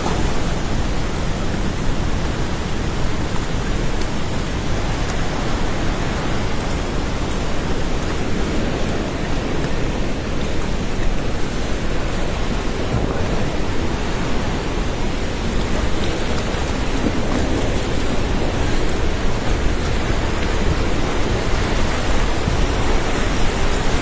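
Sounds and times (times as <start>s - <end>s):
torrent of water rushing: 0.0s - 24.0s.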